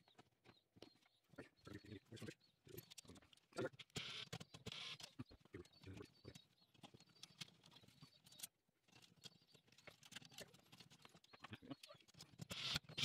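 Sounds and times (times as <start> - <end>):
wires clicking and scratching: 2.2 - 13.0.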